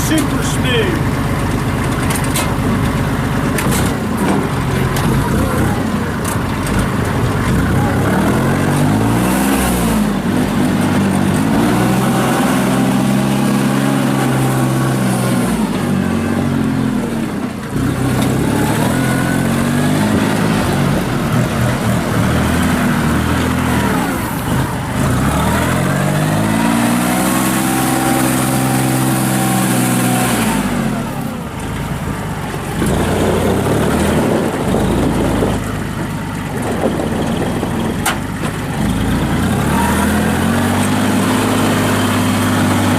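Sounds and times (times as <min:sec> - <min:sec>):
tractor diesel engine revving: 0:00.0 - 0:42.9.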